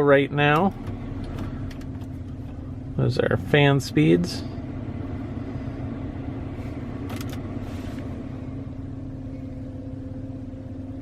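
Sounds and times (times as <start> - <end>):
engine idling with blower hum: 0.0 - 11.0.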